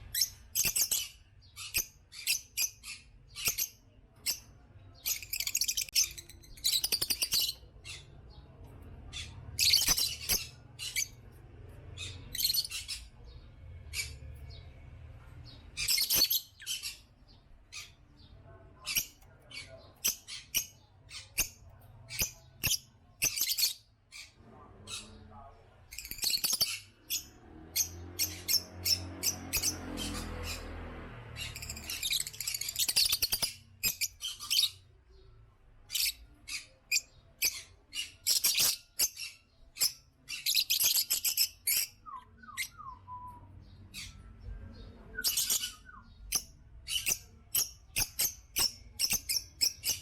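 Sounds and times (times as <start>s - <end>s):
lovebirds chirping and squawking: 0.0s - 50.0s.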